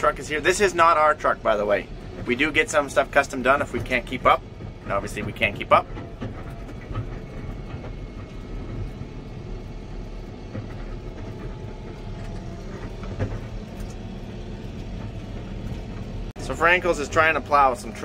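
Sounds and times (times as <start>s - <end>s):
tractor engine drone in cab: 0.0s - 18.0s.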